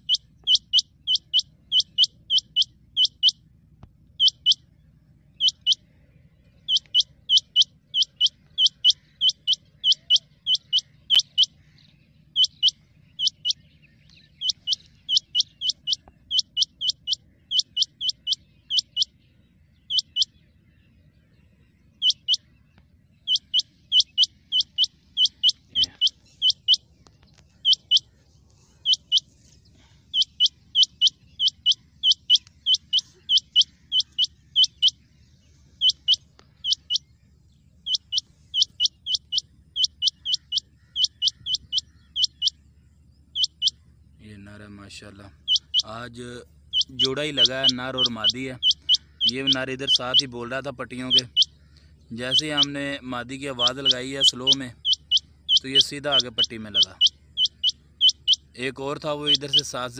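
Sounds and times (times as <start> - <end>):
quail calling sharp high notes: 0.0 - 3.4, 4.2 - 4.6, 5.4 - 5.8, 6.7 - 13.6, 14.4 - 19.2, 19.9 - 20.4, 22.0 - 22.5, 23.2 - 26.8, 27.5 - 35.0, 35.7 - 37.1, 37.8 - 42.6, 43.4 - 43.8, 45.4 - 46.0, 46.7 - 59.9.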